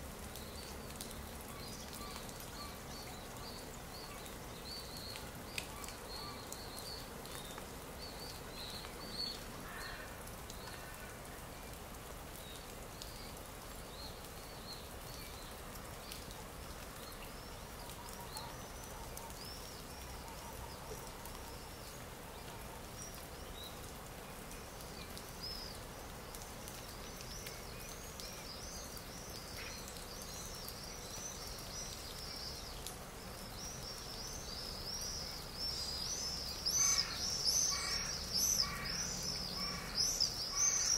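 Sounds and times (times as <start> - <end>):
songbirds chirping: 0.0 - 40.9
steady background hiss: 0.0 - 40.9.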